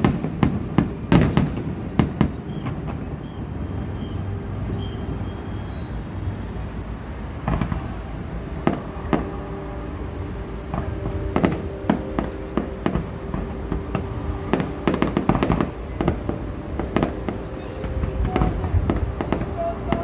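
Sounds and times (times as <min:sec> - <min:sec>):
steady drone: 0:00.0 - 0:20.0.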